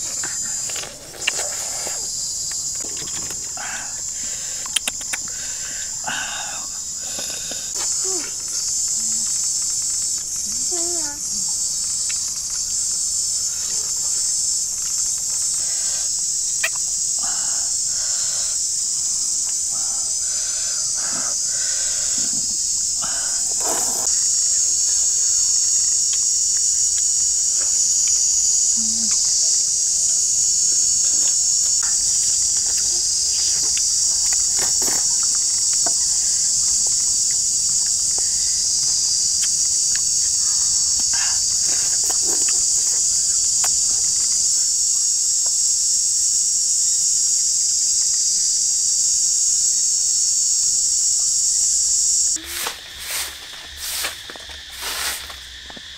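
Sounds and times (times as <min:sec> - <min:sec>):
insects chorus: 0:00.0 - 0:55.9.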